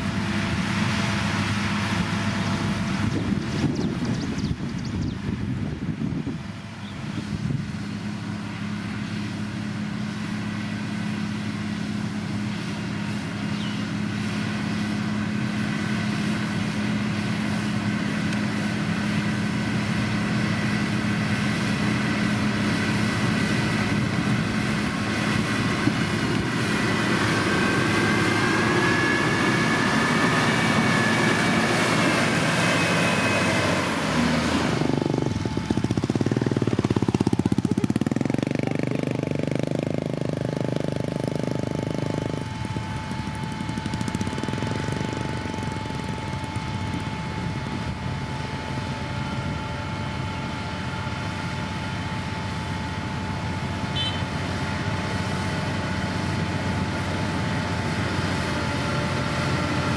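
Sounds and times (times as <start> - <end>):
diesel engine running: 0.0 - 59.9
machine whine: 7.2 - 59.9.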